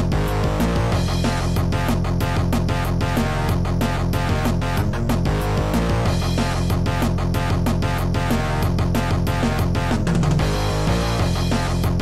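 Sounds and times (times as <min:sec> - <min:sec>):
tracker music with sampled drums: 0:00.0 - 0:12.0.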